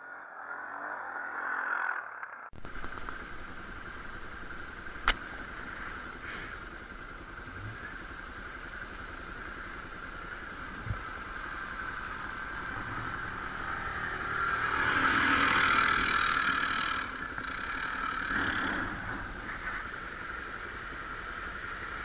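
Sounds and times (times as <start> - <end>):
quad bike engine running: 2.6 - 22.0.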